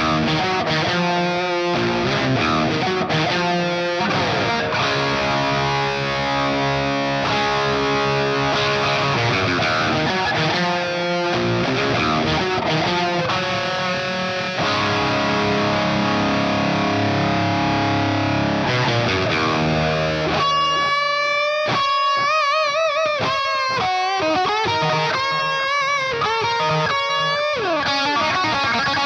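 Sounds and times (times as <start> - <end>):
distorted electric guitar: 0.0 - 29.0.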